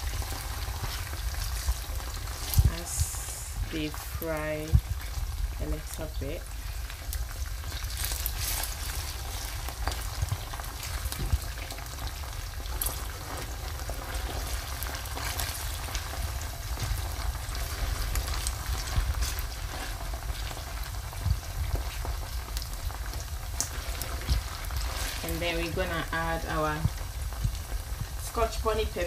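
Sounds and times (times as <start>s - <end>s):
spatula stirring: 0.0s - 27.9s
low rumble: 0.0s - 29.0s
onions sizzling in a pan: 0.0s - 29.0s.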